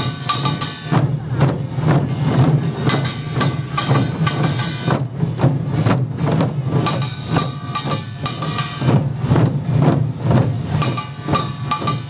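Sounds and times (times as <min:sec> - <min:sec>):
barrel drums beaten in rhythm: 0:00.0 - 0:12.0.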